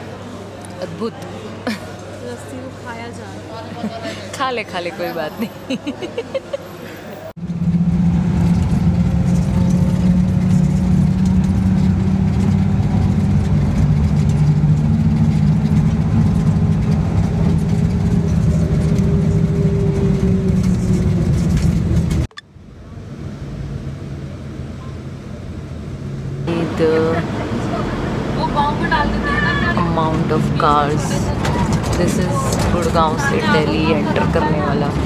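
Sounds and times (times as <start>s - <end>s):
quiet traffic noise: 0.0s - 35.0s
bus engine and road drone: 5.3s - 35.0s.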